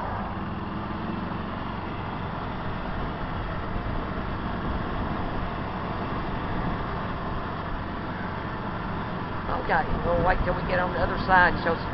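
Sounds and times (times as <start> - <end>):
car road and engine noise: 0.0 - 11.9.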